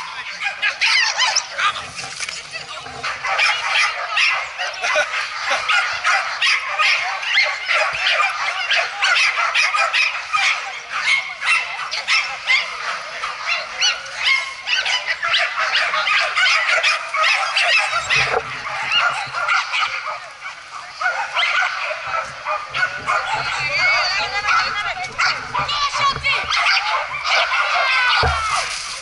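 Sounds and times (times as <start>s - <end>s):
terriers yelping and barking: 0.0s - 29.0s.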